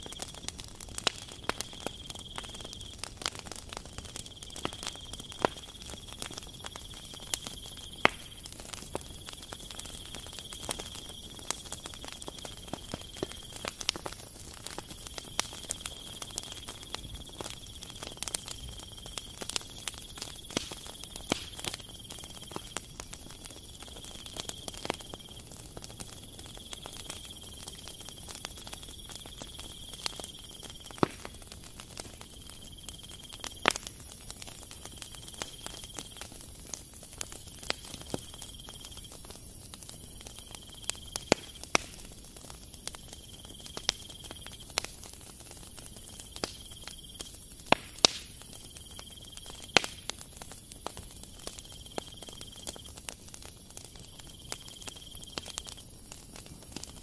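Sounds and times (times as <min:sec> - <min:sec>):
dough sizzling with crackles: 0:00.0 - 0:57.0.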